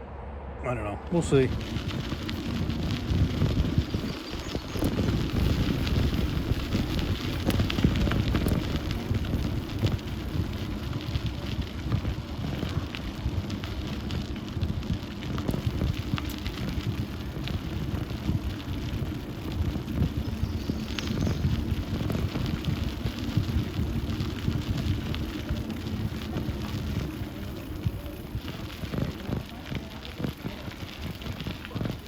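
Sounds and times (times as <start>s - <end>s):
wind noise on microphone: 0.0s - 32.0s
bicycle tyres on gravel: 1.0s - 32.0s.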